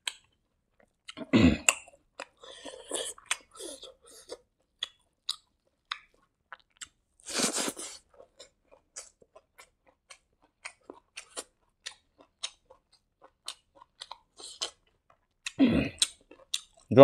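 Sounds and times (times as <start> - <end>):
wet chewing mouth clicks: 0.0 - 16.9.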